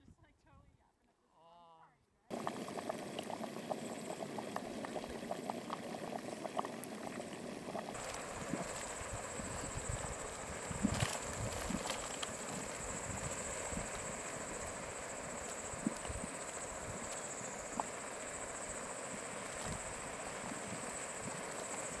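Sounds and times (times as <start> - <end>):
boiling water bubbling: 2.3 - 22.0.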